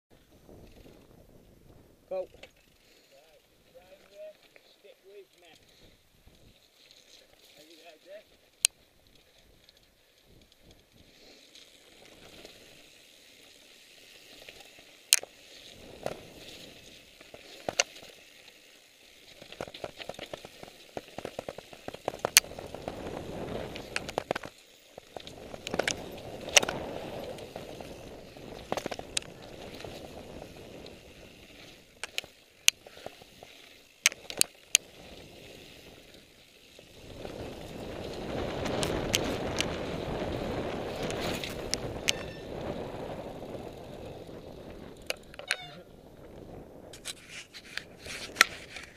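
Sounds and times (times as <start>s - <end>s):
bike tyres crunching over stones: 0.1s - 48.9s
bike knocking and rattling: 3.5s - 48.9s.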